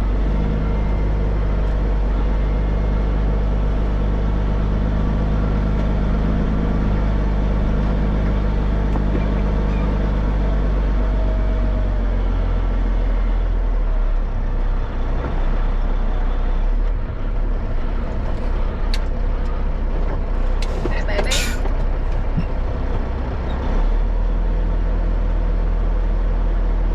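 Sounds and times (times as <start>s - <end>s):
road noise: 0.0s - 26.9s
truck engine running: 0.0s - 26.9s.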